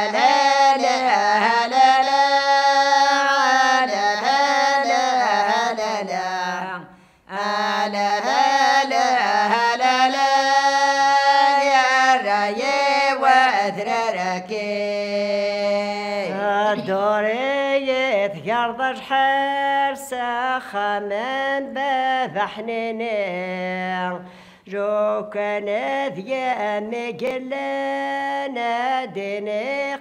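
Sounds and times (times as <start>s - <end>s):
woman singing unaccompanied: 0.0s - 30.0s.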